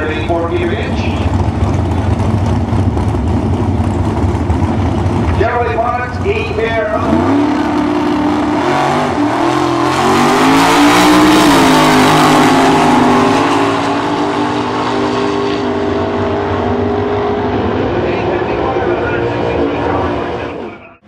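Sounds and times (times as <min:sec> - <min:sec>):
drag cars accelerating: 0:00.0 - 0:21.0.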